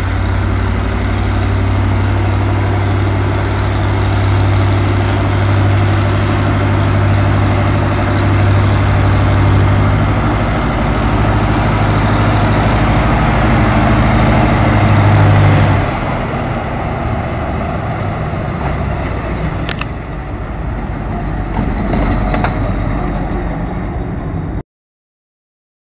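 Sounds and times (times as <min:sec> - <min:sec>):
diesel engine droning: 0:00.0 - 0:24.6.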